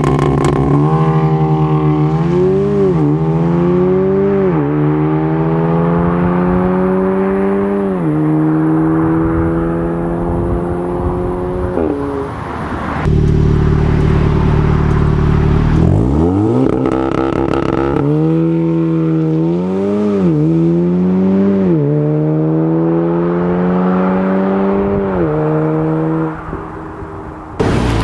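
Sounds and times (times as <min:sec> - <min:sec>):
car engine revving and accelerating: 0:00.0 - 0:28.0.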